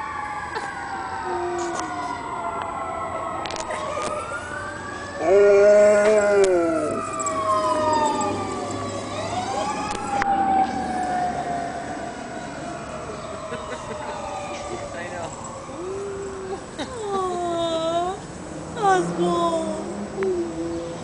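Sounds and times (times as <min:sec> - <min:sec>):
fire truck siren wailing: 0:00.0 - 0:17.4.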